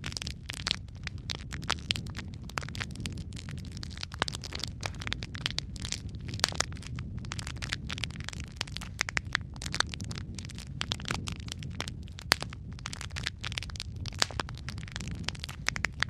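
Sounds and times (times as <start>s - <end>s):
low rumble of burning: 0.0s - 16.0s
wood fire popping and snapping: 0.0s - 16.0s.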